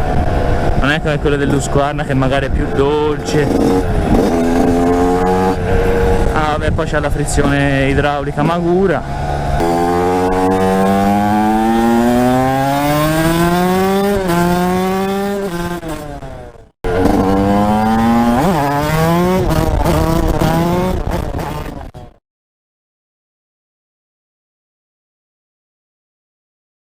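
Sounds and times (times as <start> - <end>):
motorcycle engine accelerating: 0.0 - 22.2.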